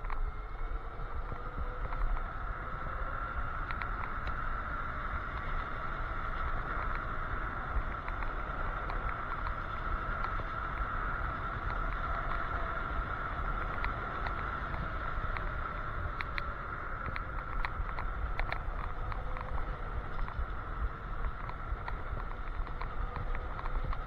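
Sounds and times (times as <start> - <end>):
wind and road rumble: 0.0 - 24.0
light clicks and rattles: 3.4 - 24.0.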